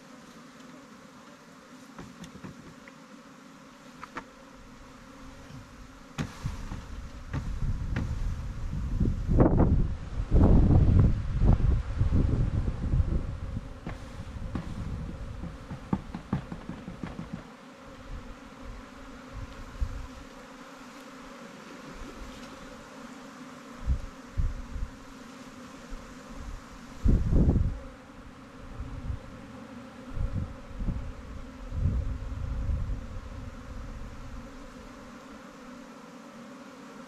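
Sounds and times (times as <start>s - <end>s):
bee swarm buzzing: 0.0s - 37.0s.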